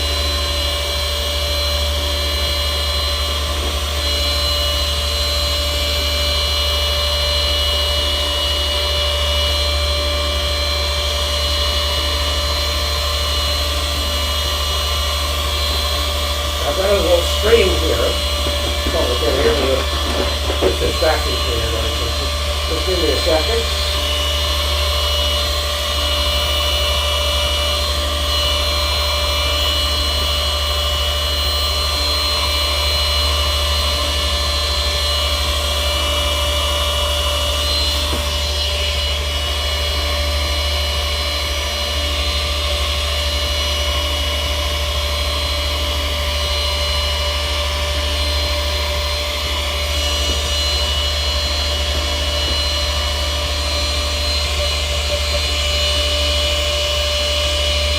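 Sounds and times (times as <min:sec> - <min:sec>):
handheld vacuum cleaner running: 0:00.0 - 0:57.9.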